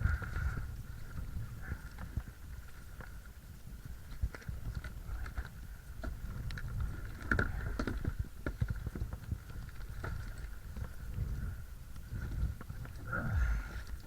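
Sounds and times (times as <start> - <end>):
kayak gear clicks and knocks: 1.8 - 13.1.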